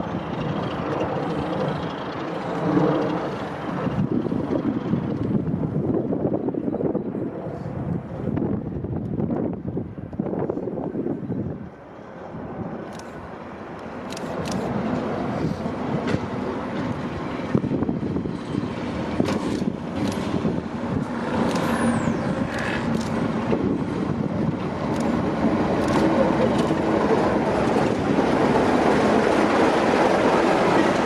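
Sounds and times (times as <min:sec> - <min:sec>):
diesel locomotive engine running: 0:00.0 - 0:07.0, 0:07.7 - 0:31.0.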